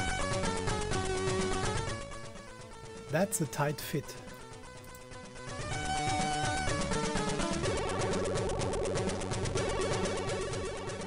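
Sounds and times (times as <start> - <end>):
chiptune music: 0.1 - 8.5, 9.5 - 11.0.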